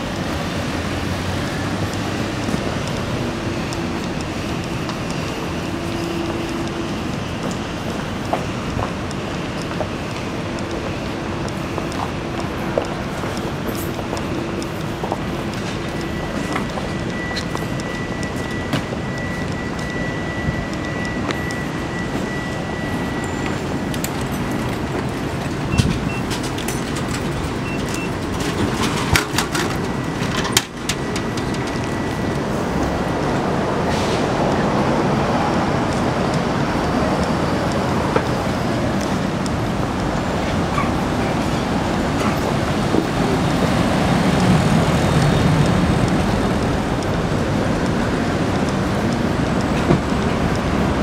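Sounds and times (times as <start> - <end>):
street traffic noise: 0.0 - 51.0.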